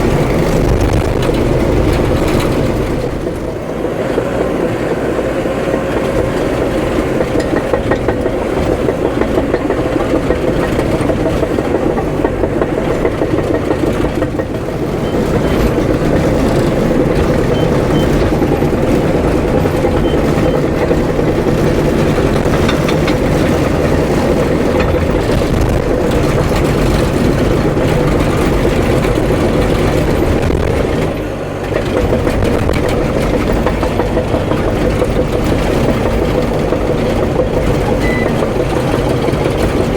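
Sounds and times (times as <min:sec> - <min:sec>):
diesel engine running: 0:00.0 - 0:39.9
steel tracks clattering: 0:00.0 - 0:39.9.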